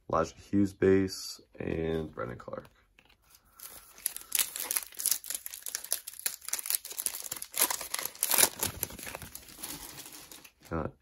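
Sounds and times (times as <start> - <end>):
trading cards rustling and shuffling: 1.6 - 10.6.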